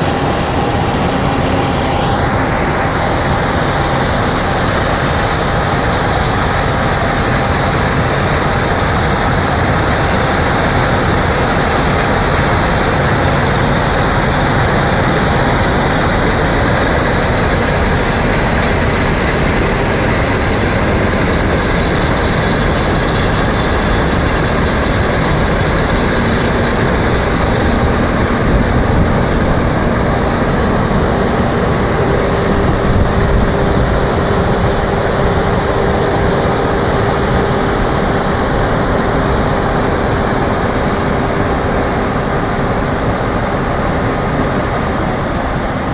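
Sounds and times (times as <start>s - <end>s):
combine harvester running: 0.0s - 45.9s.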